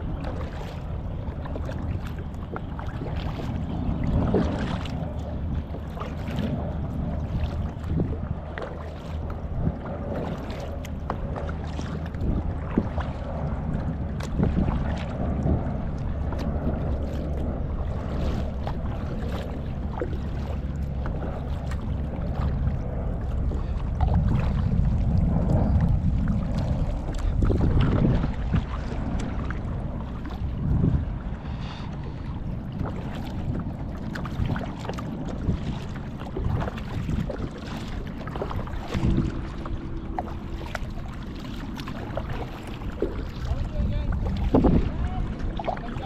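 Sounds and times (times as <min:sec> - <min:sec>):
kayak splashes and drips: 0:00.0 - 0:46.0
wind buffeting microphone: 0:00.0 - 0:46.0.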